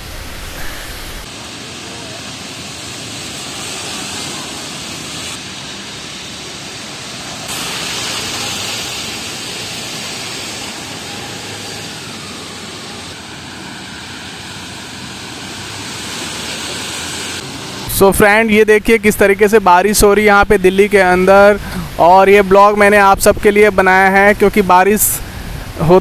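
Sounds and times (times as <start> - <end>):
heavy rain pouring: 0.0 - 26.0
traffic on wet road: 0.0 - 26.0.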